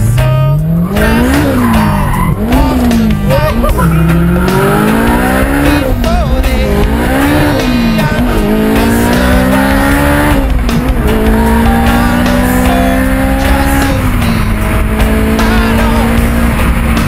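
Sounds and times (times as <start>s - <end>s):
car engine accelerating: 0.0s - 17.0s
music playing: 0.0s - 17.0s.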